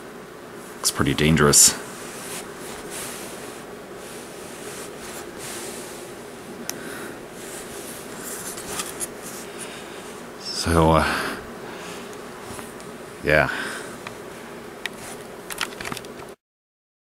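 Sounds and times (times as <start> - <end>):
rustling handling noise on fabric: 0.5 - 10.4, 11.4 - 13.2, 13.8 - 16.1.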